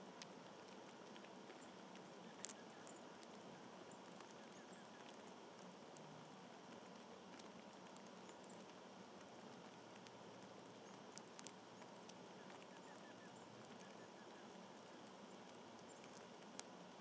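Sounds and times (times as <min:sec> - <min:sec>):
light ticks: 0:00.0 - 0:17.0.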